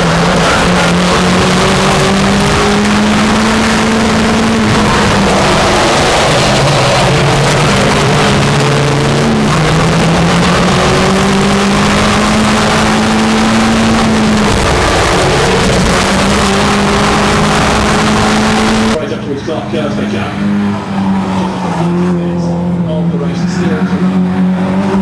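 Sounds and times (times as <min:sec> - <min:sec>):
racing car engines: 0:00.0 - 0:25.0.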